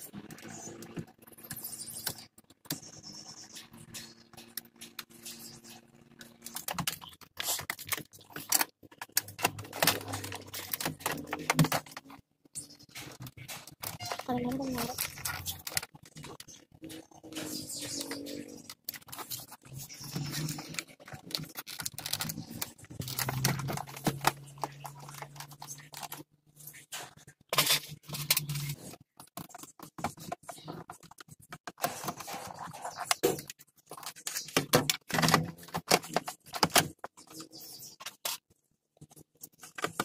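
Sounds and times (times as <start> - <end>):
plastic scraping and clicking: 0.0 - 40.0.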